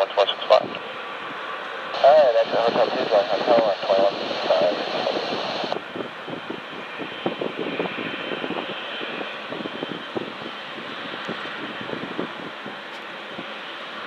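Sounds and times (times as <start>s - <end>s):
jet engine rumble and hiss: 0.0s - 14.0s.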